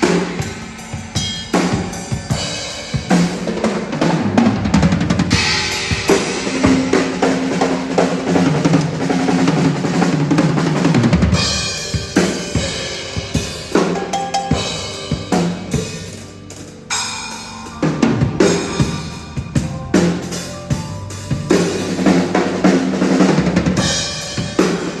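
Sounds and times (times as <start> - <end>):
cymbals ringing: 0.0 - 4.3, 5.3 - 10.0, 11.4 - 25.0
drum kit played hard: 0.0 - 25.0.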